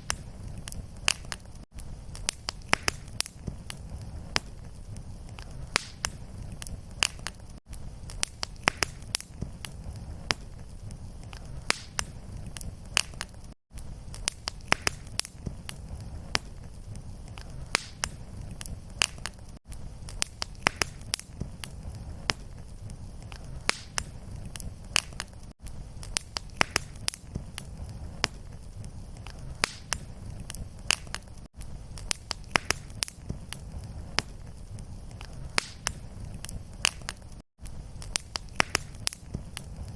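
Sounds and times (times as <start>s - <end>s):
fireplace fire crackling and popping: 0.0s - 39.9s
low steady fire rumble: 0.0s - 39.9s.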